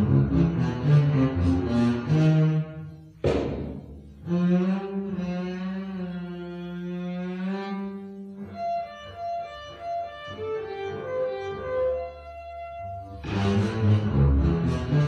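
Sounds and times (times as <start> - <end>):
double bass playing: 0.0 - 15.0.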